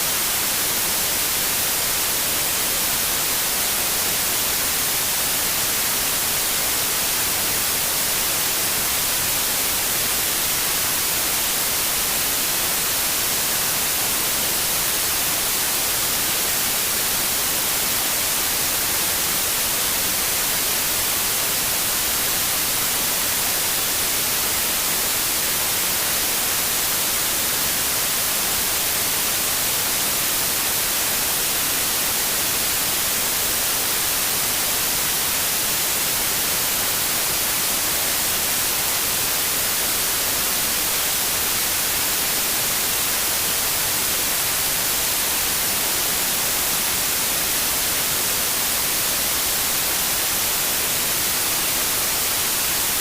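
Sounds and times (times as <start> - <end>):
white noise hiss: 0.0 - 53.0.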